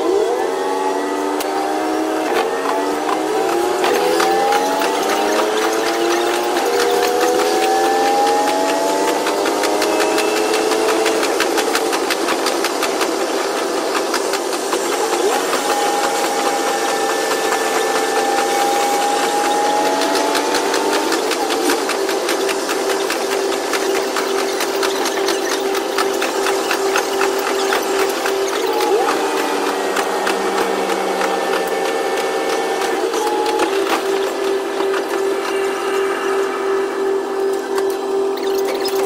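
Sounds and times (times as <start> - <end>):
diesel railcar engine whining: 0.0 - 39.0
wheels clattering on rail: 2.3 - 36.2.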